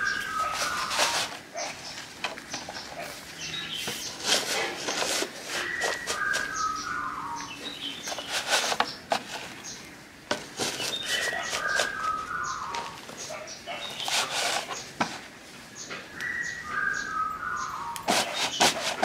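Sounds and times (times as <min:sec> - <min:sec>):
plastic scoop scraping soil: 0:00.0 - 0:15.3, 0:18.0 - 0:19.0
birds chirping: 0:00.0 - 0:19.0.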